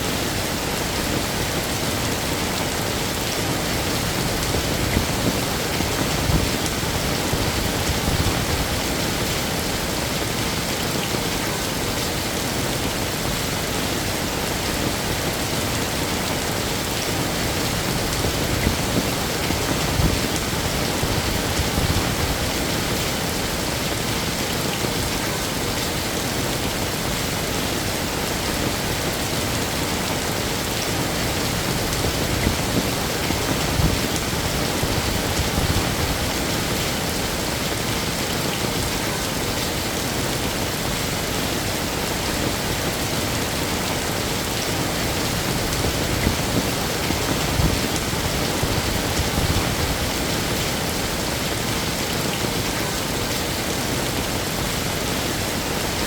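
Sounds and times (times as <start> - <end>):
heavy rain on hard surfaces: 0.0 - 56.0.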